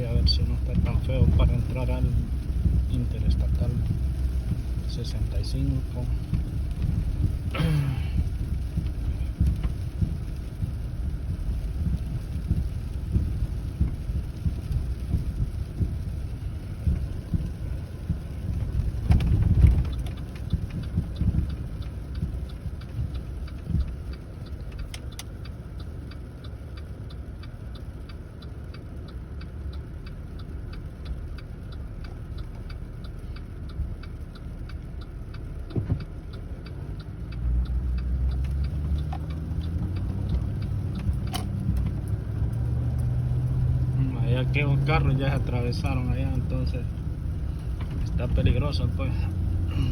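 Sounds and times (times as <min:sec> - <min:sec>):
car engine accelerating: 0:00.0 - 0:49.9
turn signal ticking: 0:00.0 - 0:49.9
tyre and road rumble: 0:00.0 - 0:49.9.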